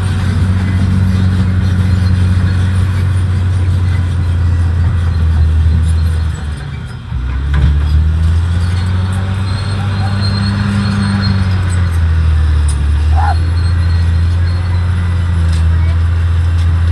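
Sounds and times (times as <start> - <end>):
bulldozer diesel engine running: 0.0 - 16.9.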